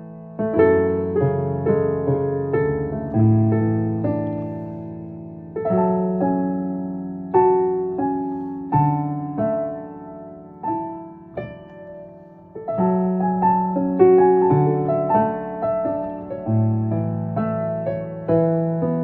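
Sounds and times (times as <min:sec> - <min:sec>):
digital piano chords and notes: 0:00.0 - 0:19.0.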